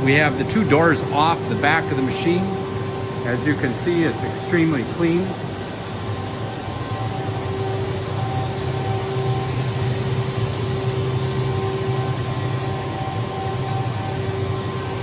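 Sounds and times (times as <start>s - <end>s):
machine low hum: 0.0s - 15.0s
steady machine tones: 0.0s - 15.0s.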